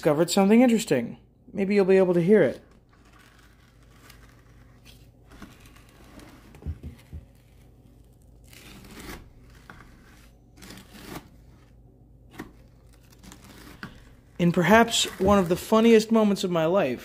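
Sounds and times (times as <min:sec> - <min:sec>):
stick crunching frozen paint: 0:02.2 - 0:15.9.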